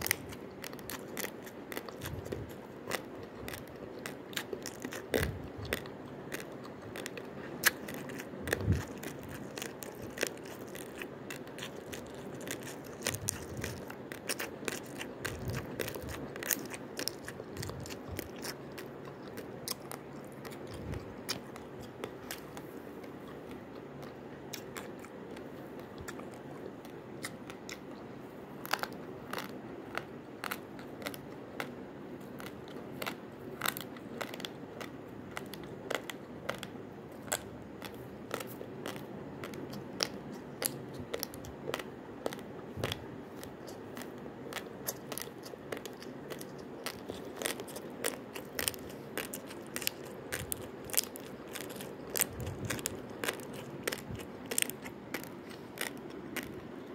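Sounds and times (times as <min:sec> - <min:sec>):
person chewing crunchy rice: 0:00.0 - 0:56.9
steady low hum: 0:00.0 - 0:56.9.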